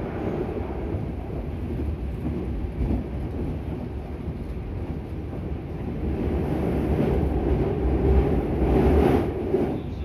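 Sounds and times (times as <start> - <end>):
train cabin low rumble: 0.0 - 10.0.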